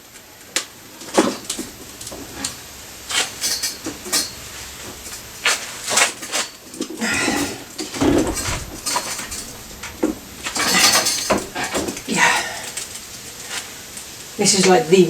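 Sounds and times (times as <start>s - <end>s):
metal clanks and scrapes: 1.1s - 13.8s.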